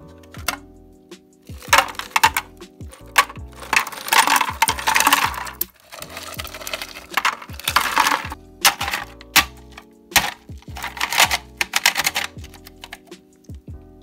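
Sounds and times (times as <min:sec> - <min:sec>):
background music: 0:00.0 - 0:14.0
ice cubes clattering into plastic bin: 0:00.3 - 0:00.6, 0:01.5 - 0:13.0
plastic basket rattling: 0:00.3 - 0:00.6, 0:01.5 - 0:13.1.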